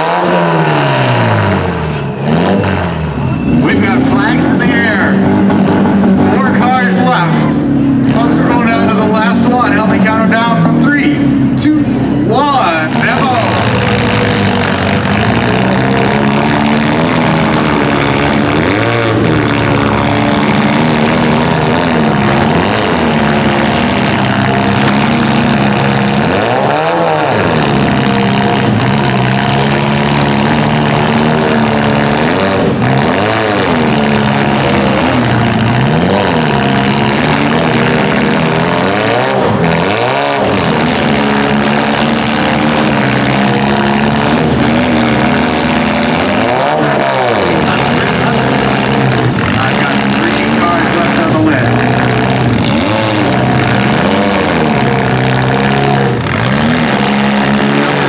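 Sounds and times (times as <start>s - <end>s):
car engines revving hard: 0.0s - 58.0s.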